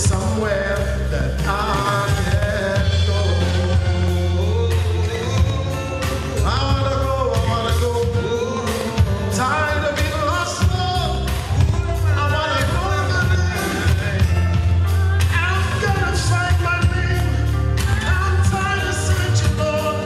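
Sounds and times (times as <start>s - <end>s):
bass guitar: 0.0s - 20.0s
drums: 0.0s - 20.0s
person singing: 0.0s - 20.0s.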